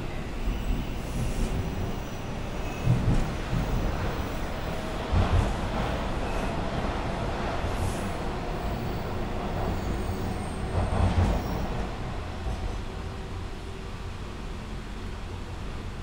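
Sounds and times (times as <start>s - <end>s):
subway train wheels rumbling on rail: 0.0s - 16.0s.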